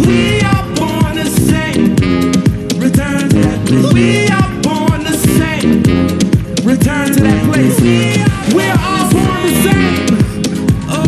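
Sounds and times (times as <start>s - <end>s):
drums beating steadily: 0.0s - 11.0s
jazz-funk band playing: 0.0s - 11.0s
saxophone: 0.0s - 11.0s.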